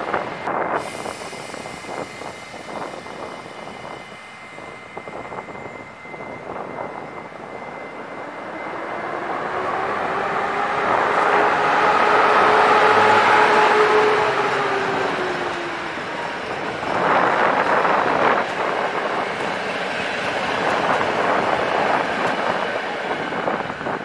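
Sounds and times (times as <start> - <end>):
electric locomotive passing: 0.0 - 24.0.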